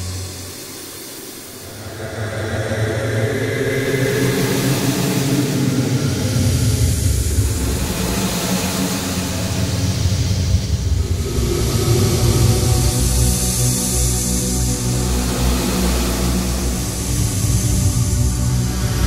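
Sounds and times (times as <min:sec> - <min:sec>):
ambient music low drone: 0:00.0 - 0:19.0.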